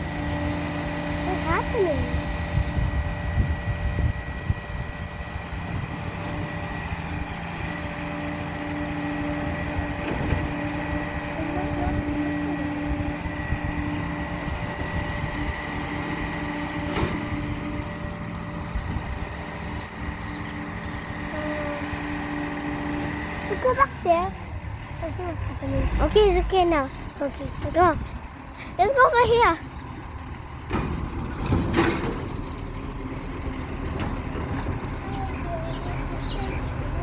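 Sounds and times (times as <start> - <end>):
steady whining tone: 0.0 - 31.0
truck engine rumble: 0.0 - 37.0.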